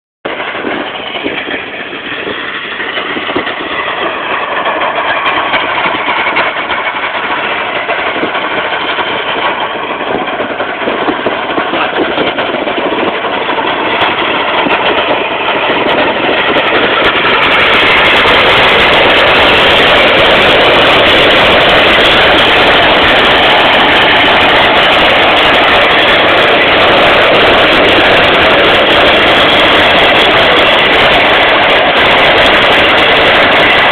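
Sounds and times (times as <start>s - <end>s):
bike rolling and rattling: 0.3s - 33.9s
wind on microphone: 0.3s - 33.9s.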